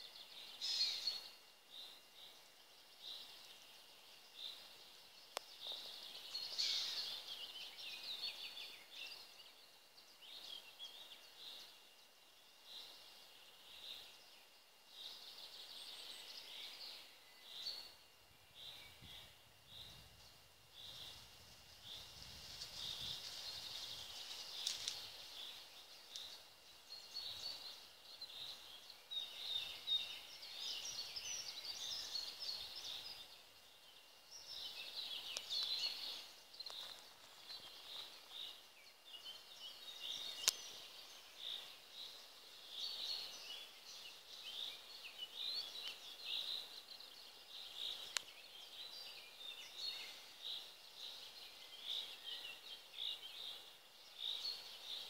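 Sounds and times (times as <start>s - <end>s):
wild birds singing and chirping: 0.0s - 55.0s.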